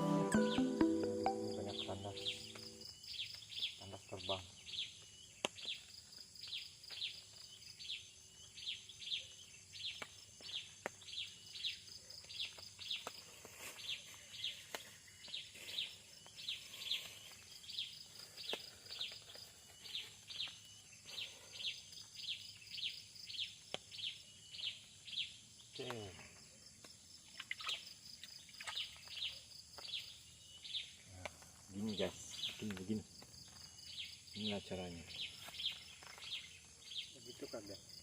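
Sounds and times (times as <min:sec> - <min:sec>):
bird chirping: 0:00.0 - 0:13.2, 0:13.8 - 0:26.7, 0:27.3 - 0:38.0.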